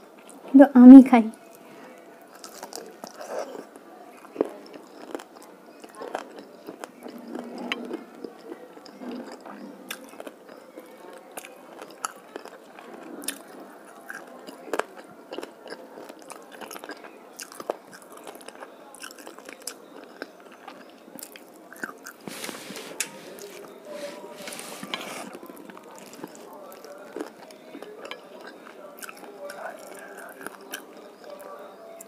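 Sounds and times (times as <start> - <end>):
person chewing and crunching bones: 2.3 - 31.5.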